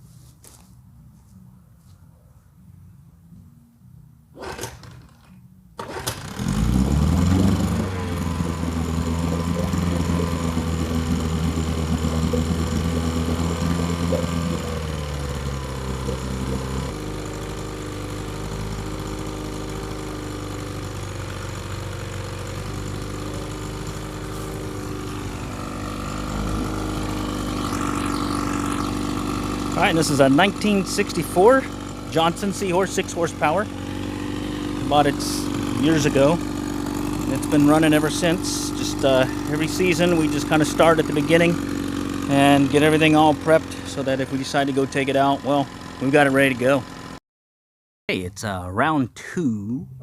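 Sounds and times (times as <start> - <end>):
outboard motor running: 4.4 - 47.2.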